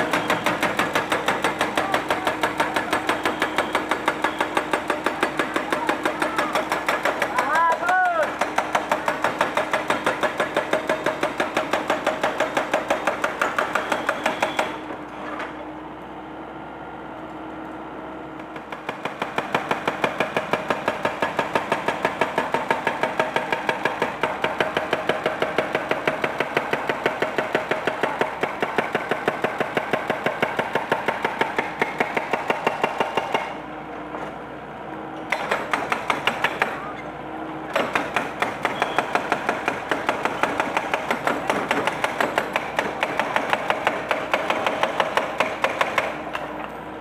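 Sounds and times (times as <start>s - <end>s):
hydraulic breaker hammering concrete: 0.0s - 15.0s, 18.4s - 33.6s, 35.2s - 36.9s, 37.7s - 46.7s
excavator engine running: 0.0s - 47.0s.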